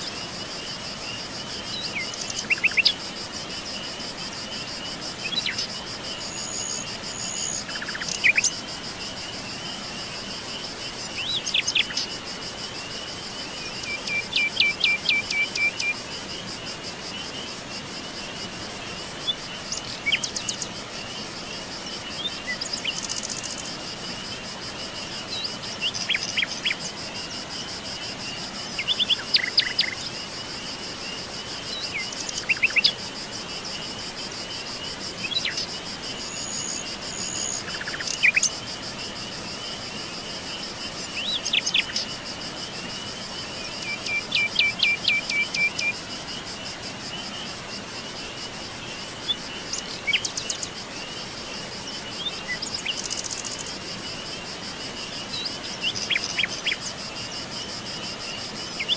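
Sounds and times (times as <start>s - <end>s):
insect chorus trilling: 0.0s - 58.9s.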